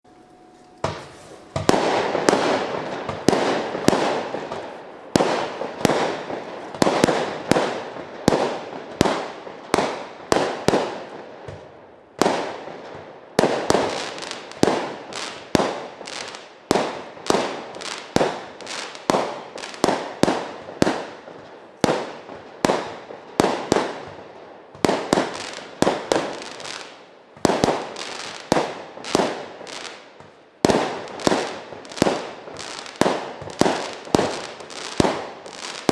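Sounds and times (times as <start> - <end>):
fireworks bangs: 0.0 - 35.9.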